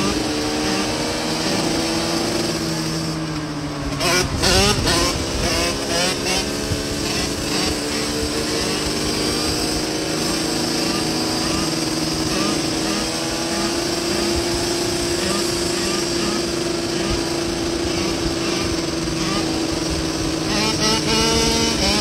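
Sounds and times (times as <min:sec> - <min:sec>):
motorcycle engine revving: 0:00.0 - 0:22.0
motorcycle engines running: 0:00.0 - 0:22.0.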